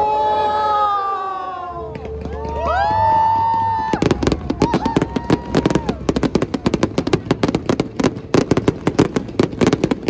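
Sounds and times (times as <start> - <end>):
fireworks bangs and crackles: 1.9 - 10.0.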